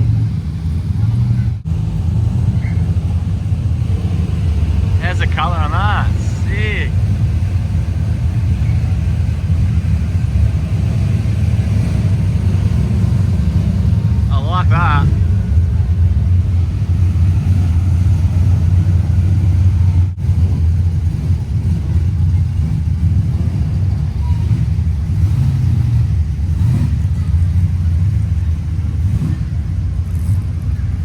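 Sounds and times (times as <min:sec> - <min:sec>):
car engines rumbling: 0:00.0 - 0:31.0.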